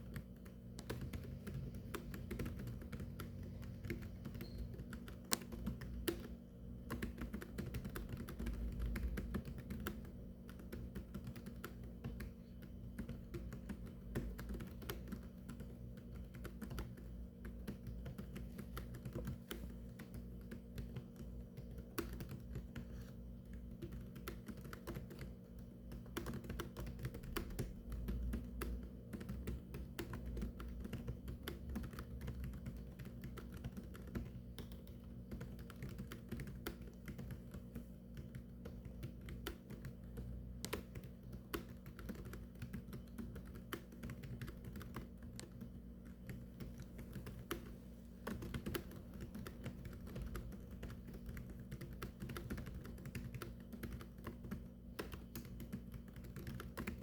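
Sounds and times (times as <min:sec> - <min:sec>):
keyboard typing clicks: 0:00.0 - 0:57.0
steady low hum: 0:00.0 - 0:57.0.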